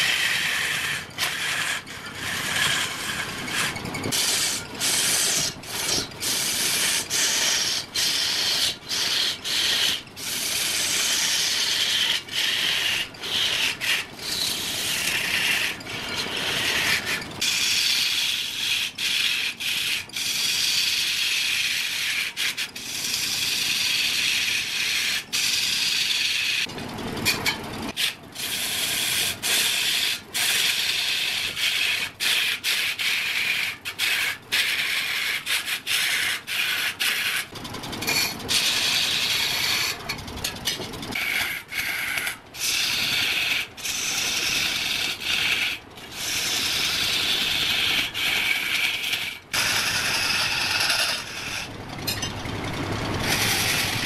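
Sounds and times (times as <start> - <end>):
lathe tool scraping wood: 0.0 - 54.0.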